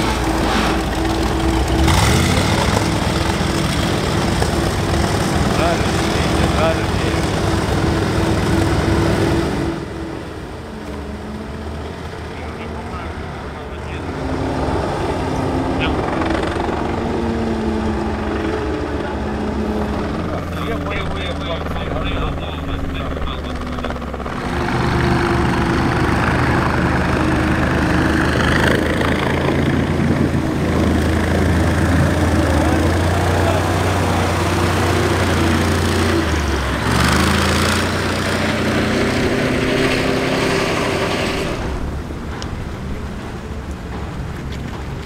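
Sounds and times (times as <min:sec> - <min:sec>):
armoured car engine droning: 0:00.0 - 0:45.0.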